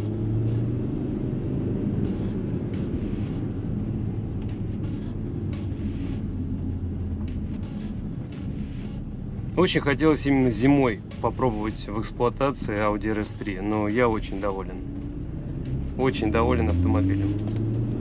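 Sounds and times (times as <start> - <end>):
car engine droning: 0.0 - 18.0
tyre and road noise on snow: 0.0 - 18.0.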